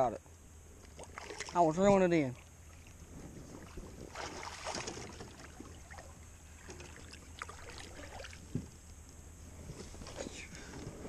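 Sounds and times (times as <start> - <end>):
water sloshing beside kayak: 0.7 - 11.0.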